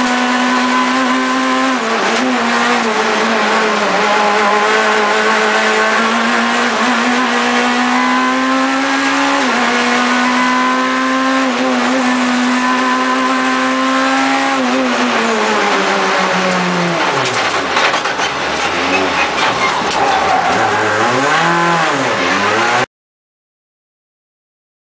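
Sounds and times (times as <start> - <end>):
rally car engine at high revs: 0.0 - 22.9.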